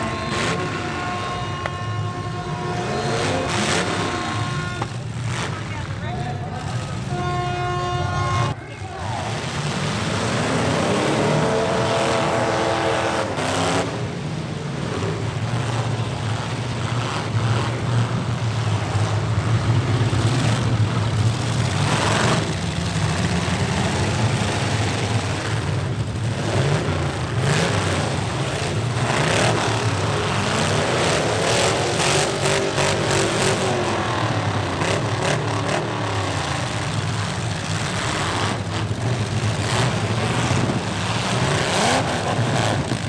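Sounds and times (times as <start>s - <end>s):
truck engines revving: 0.0s - 43.0s
trucks ramming each other: 0.0s - 43.0s.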